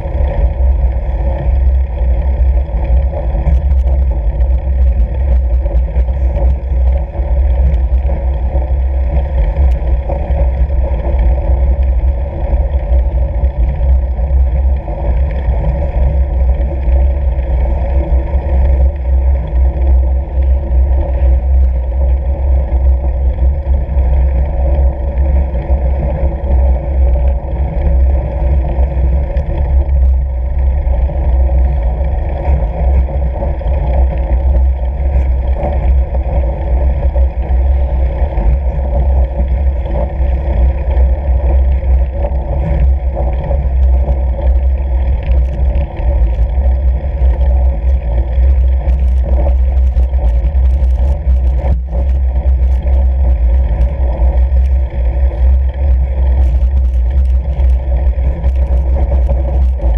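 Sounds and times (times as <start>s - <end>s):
bike tyres rolling over snow: 0.0s - 59.9s
wind rushing over microphone: 0.0s - 59.9s.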